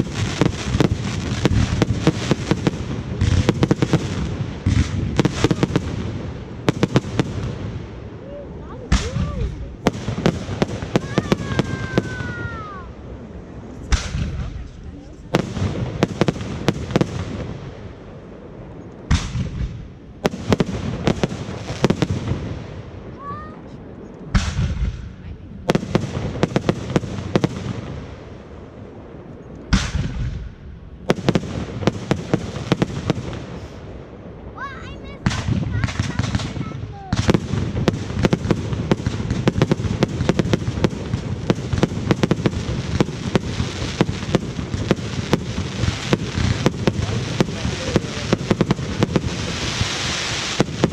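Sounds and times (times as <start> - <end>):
firework bangs: 0.0 - 50.9
heavy firework boom: 0.0 - 50.9
low rumbling echo: 0.0 - 50.9.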